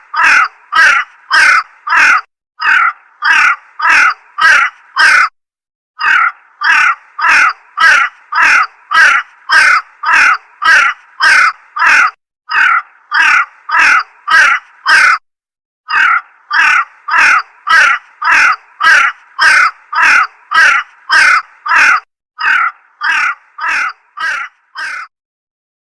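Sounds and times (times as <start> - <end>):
crow cawing: 0.0 - 5.4, 6.0 - 15.2, 15.9 - 25.1.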